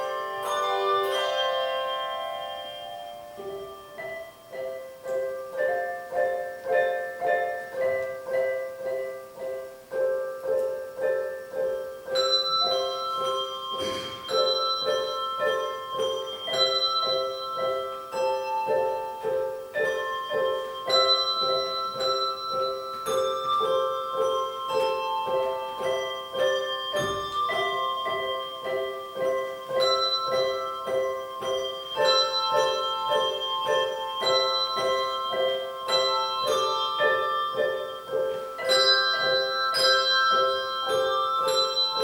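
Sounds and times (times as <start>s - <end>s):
handbell choir playing: 0.0s - 9.5s, 11.1s - 42.0s.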